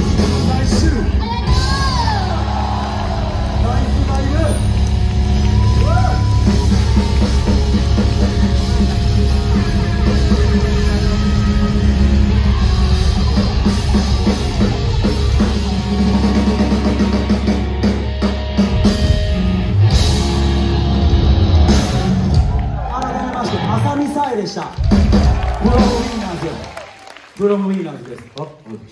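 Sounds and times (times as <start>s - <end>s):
heavy bass: 0.0s - 24.0s
guitar: 0.0s - 26.6s
drum kit: 0.0s - 26.7s
live rock band playing: 0.0s - 26.7s.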